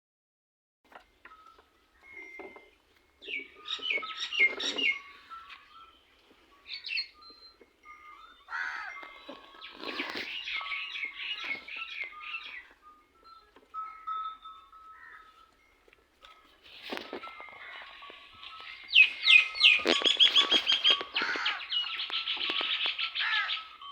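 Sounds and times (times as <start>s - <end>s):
small birds chirping: 1.3s - 15.8s, 16.4s - 23.9s
thin whistled bird notes: 1.3s - 23.9s.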